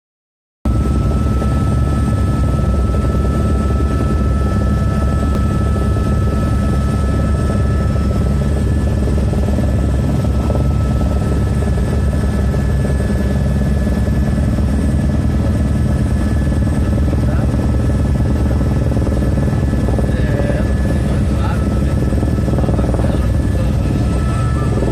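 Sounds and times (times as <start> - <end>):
helicopter rotor rumble: 0.7 - 24.9
thin steady whine: 0.7 - 24.9.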